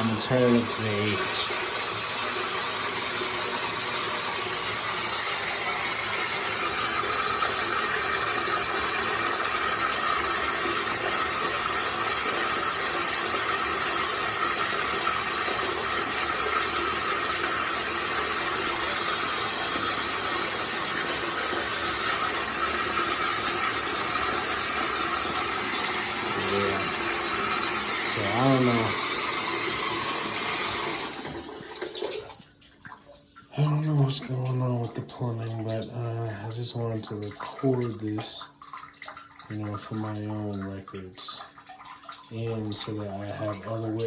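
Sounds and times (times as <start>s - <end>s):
faucet running into bathtub: 0.0s - 44.0s.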